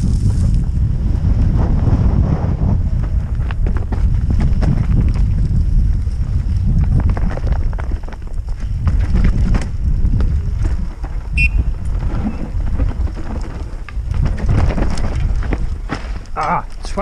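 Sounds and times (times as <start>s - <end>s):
wind buffeting microphone: 0.0s - 17.0s
bike knocking and rattling: 2.6s - 17.0s.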